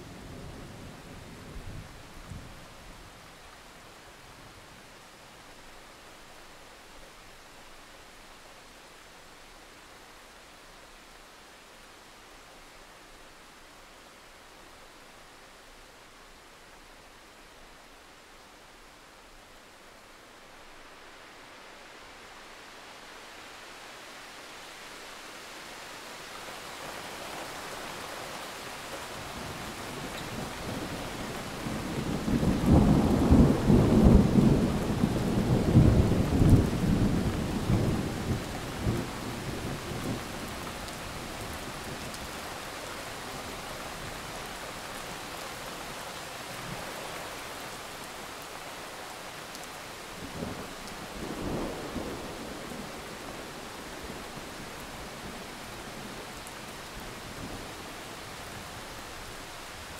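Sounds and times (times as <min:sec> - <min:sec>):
rain falling on plants: 0:00.0 - 0:59.9.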